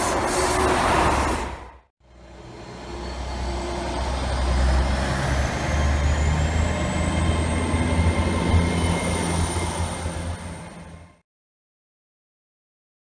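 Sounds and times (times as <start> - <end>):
heavy engine rumbling: 0.0 - 11.2.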